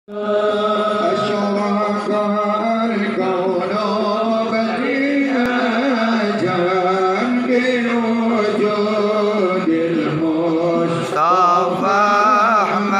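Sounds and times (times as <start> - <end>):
men chanting in unison: 0.1 - 12.9.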